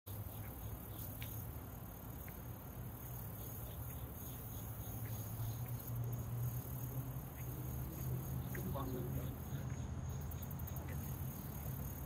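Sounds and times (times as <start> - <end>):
high insect drone: 0.1 - 12.0
rain drips ticking: 0.1 - 12.0.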